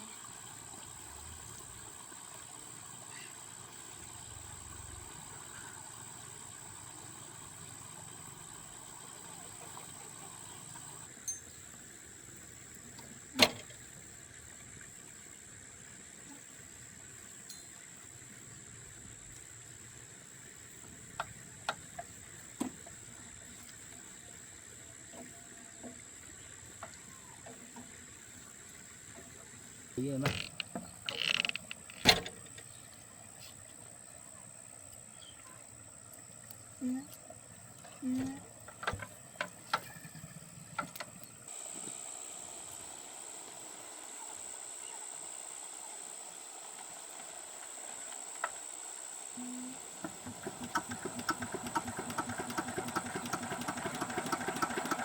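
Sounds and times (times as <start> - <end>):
background hiss: 0.0 - 55.0
faint high-pitched whine: 0.0 - 55.0.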